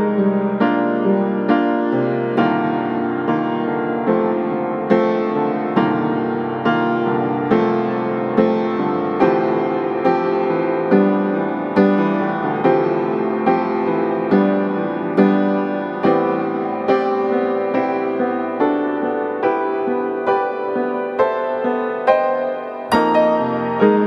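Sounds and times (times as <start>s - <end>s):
piano notes and chords: 0.0s - 24.0s.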